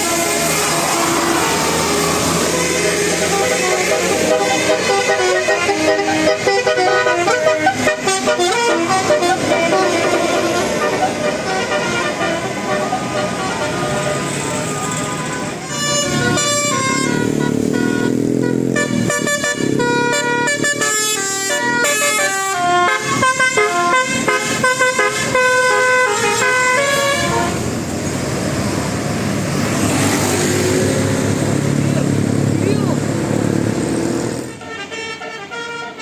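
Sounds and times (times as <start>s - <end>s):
multi-tone air horn melody: 0.0s - 27.7s, 34.4s - 36.0s
road noise: 0.0s - 36.0s.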